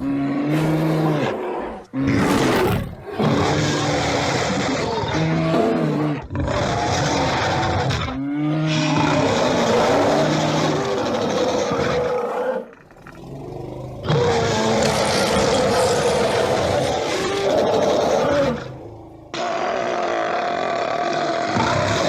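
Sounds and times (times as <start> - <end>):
bear roaring: 0.0 - 22.0.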